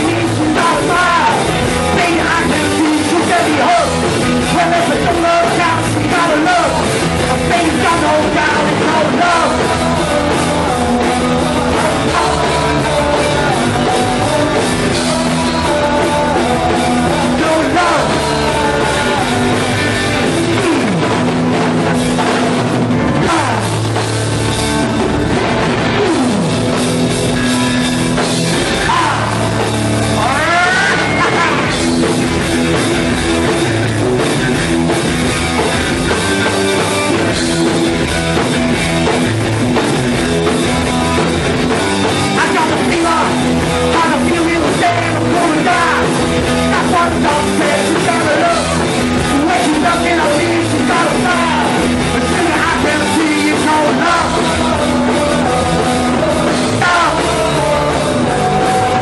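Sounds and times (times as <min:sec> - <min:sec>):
bass: 0:00.0 - 0:59.0
drum kit: 0:00.0 - 0:59.0
electric guitars: 0:00.0 - 0:59.0.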